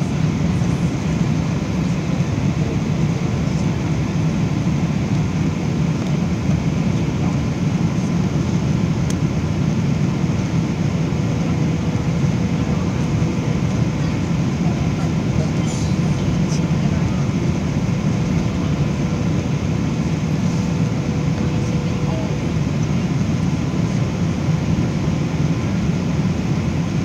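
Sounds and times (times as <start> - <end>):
airplane cabin roar: 0.0 - 27.0.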